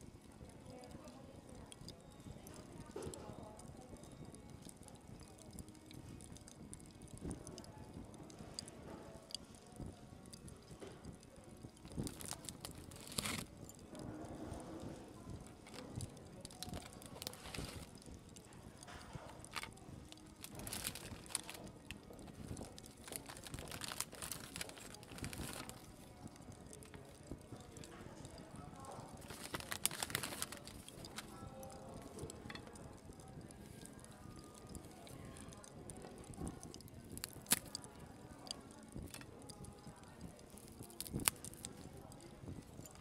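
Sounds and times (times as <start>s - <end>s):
cling film crinkling: 2.1s - 43.0s.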